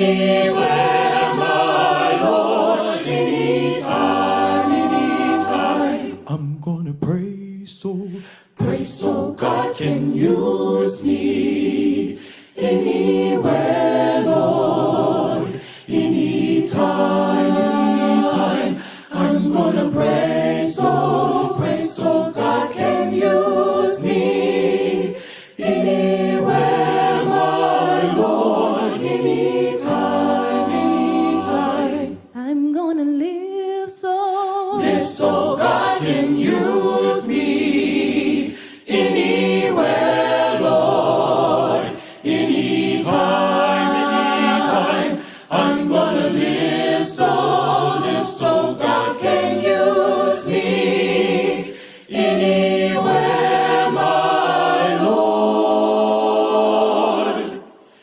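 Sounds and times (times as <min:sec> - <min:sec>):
a cappella vocal ensemble singing: 0:00.0 - 0:58.0.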